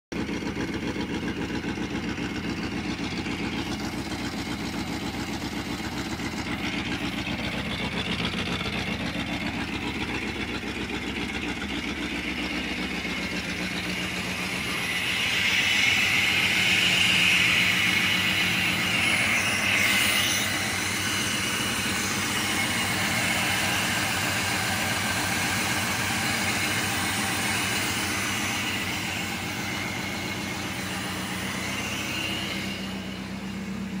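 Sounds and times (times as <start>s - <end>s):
car engine idling: 0.1s - 34.0s.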